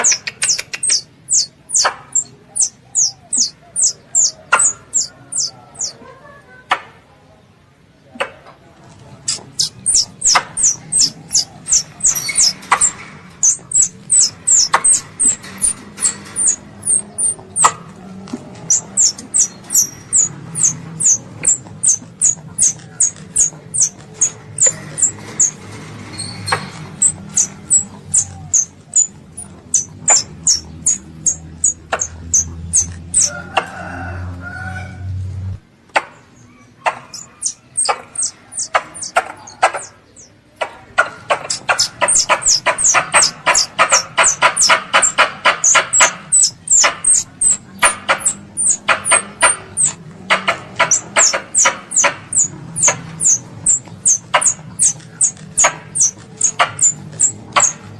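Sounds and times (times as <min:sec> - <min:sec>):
squirrel squeaky chirps: 0:00.0 - 0:06.0, 0:09.2 - 0:17.8, 0:18.6 - 0:33.3, 0:36.6 - 0:40.3, 0:41.3 - 0:57.9.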